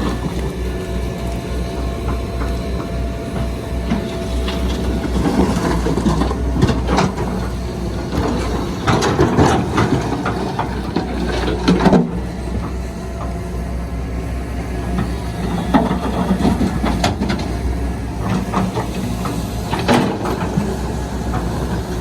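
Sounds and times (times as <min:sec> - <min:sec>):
bulldozer diesel engine running: 0:00.0 - 0:22.0
clanking and scraping of soil: 0:00.0 - 0:22.0.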